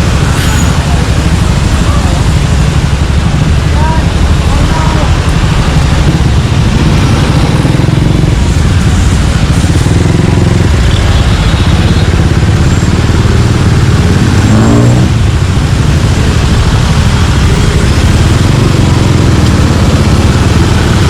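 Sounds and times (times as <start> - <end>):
motorcycle exhaust rumble: 0.0 - 21.0
street traffic: 0.0 - 21.0.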